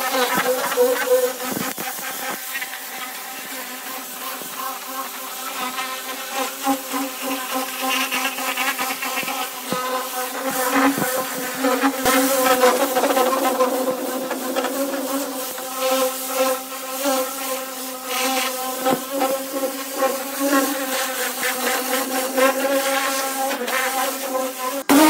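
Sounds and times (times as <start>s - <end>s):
pressure washer buzzing hum: 0.0s - 25.0s
water jet hissing on metal: 0.0s - 25.0s.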